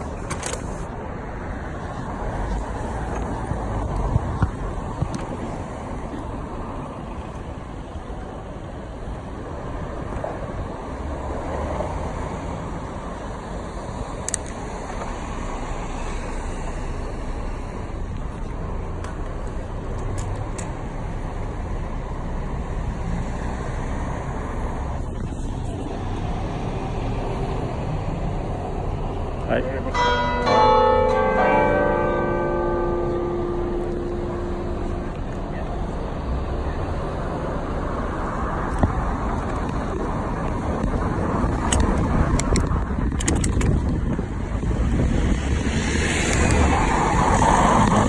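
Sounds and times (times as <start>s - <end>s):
cars and buses passing: 0.0s - 48.0s.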